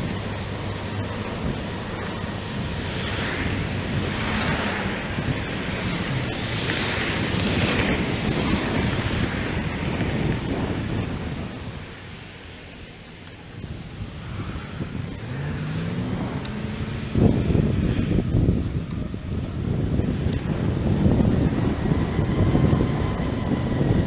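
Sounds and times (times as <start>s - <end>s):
road traffic: 0.0s - 24.0s
wind rushing over microphone: 0.0s - 24.0s.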